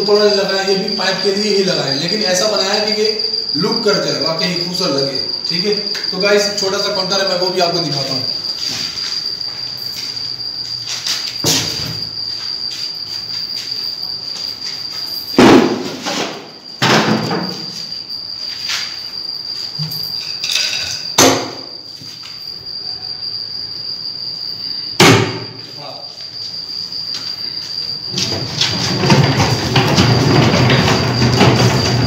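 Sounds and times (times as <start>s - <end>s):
high-pitched whine: 0.0s - 32.0s.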